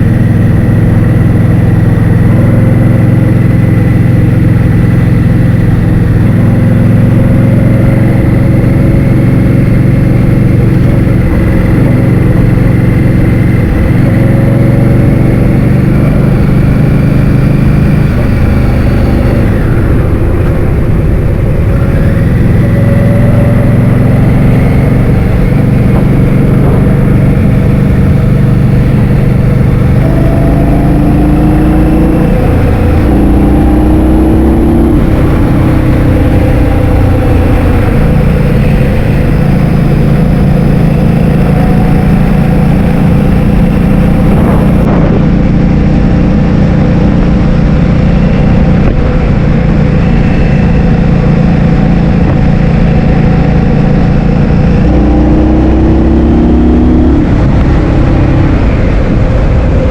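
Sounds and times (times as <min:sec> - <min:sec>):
scooter engine running: 0:00.0 - 0:59.9
wind buffeting microphone: 0:05.3 - 0:56.4, 0:57.1 - 0:59.9.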